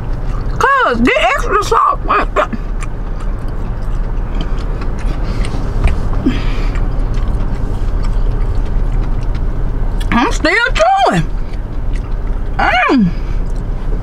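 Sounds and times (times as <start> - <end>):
person chewing: 0.0 - 0.7, 2.1 - 10.2, 11.3 - 14.0
car engine rumble inside cabin: 0.0 - 14.0.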